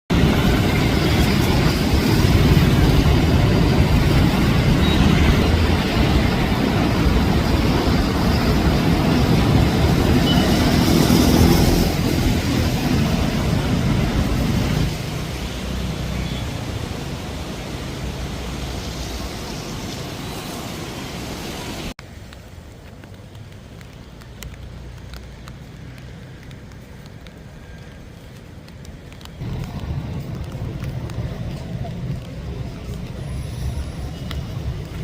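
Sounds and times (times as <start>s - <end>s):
floodwater rushing: 0.1s - 35.0s.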